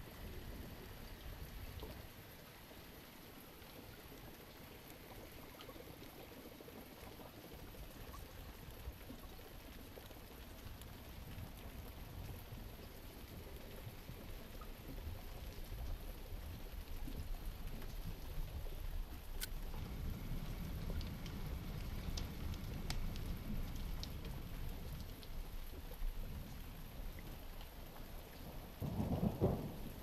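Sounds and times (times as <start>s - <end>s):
soft hiss of running water: 0.0s - 30.0s.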